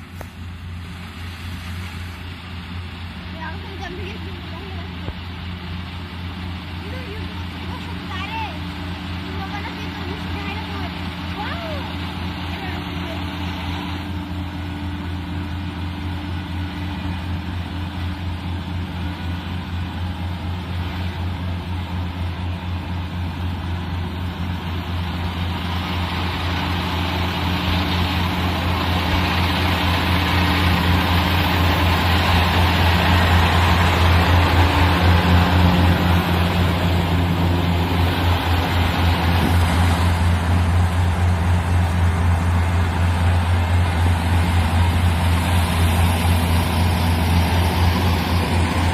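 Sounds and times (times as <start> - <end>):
diesel engine humming: 0.0 - 48.9.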